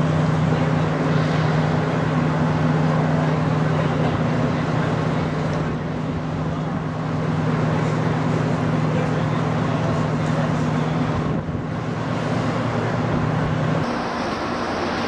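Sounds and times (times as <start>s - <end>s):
broad wash of noise: 0.0s - 15.0s
ship machinery low hum: 0.0s - 15.0s.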